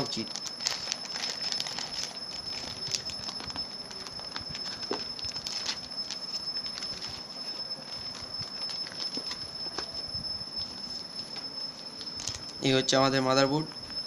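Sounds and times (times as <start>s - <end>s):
faint high-pitched whine: 0.0s - 14.0s.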